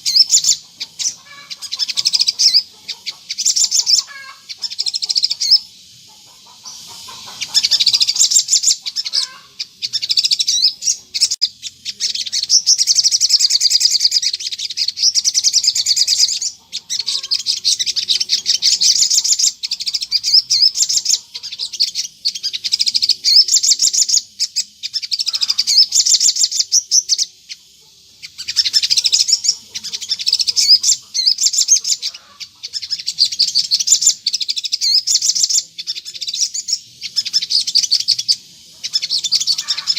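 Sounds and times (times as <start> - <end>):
sunbird singing chittering trills: 0.0 - 39.9.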